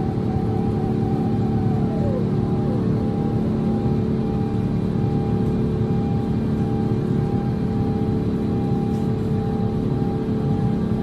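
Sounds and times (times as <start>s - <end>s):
jet engine rumble in cabin: 0.0s - 11.0s
steady humming tones: 0.0s - 11.0s.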